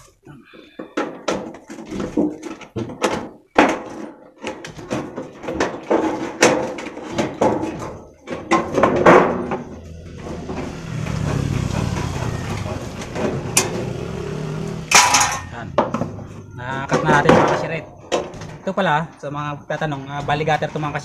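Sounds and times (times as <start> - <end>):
metal sheet rattling: 1.1 - 18.8.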